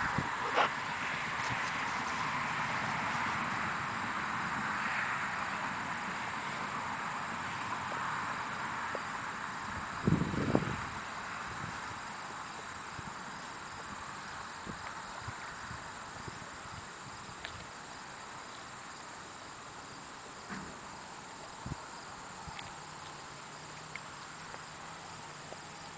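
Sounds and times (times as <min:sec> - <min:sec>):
insect hiss: 0:00.0 - 0:25.9.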